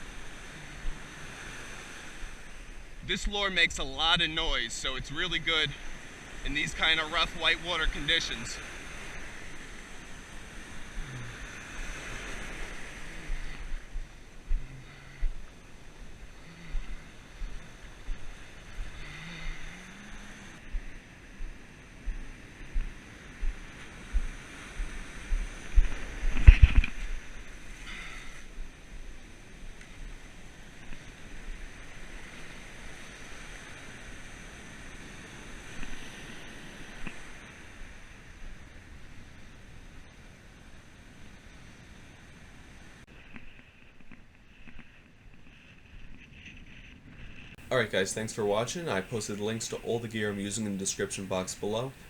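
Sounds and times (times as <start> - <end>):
ocean surf washing onto beach: 0.0 - 39.5, 47.6 - 52.0
wind gusting across microphone: 0.0 - 52.0.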